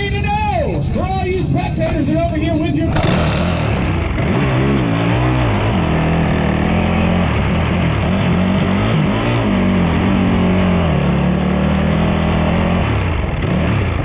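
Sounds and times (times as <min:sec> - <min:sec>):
atv engines revving and idling: 0:00.0 - 0:14.0.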